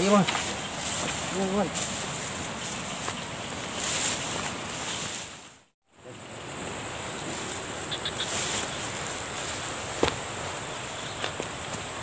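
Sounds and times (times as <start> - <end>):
footsteps through grass: 0.0 - 5.8, 7.2 - 11.5
insects chirring: 0.0 - 12.0.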